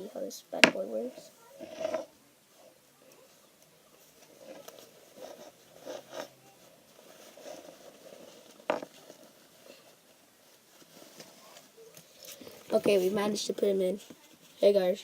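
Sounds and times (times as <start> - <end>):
cloth rustling and scraping: 1.0 - 14.8.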